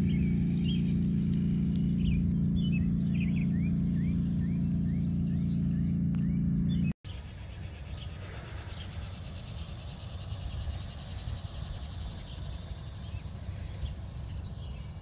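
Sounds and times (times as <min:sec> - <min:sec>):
bird chirps: 0:00.0 - 0:15.0
insect buzzing: 0:00.0 - 0:15.0.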